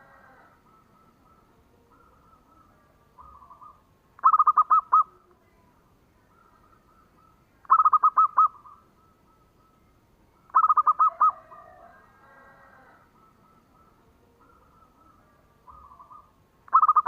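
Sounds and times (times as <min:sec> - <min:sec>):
dove cooing: 0:00.0 - 0:05.3, 0:06.2 - 0:09.8, 0:10.4 - 0:17.0.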